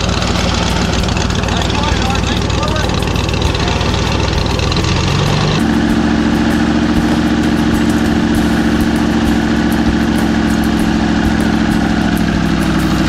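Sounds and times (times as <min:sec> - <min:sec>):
airboat engine idling: 0:00.0 - 0:13.0.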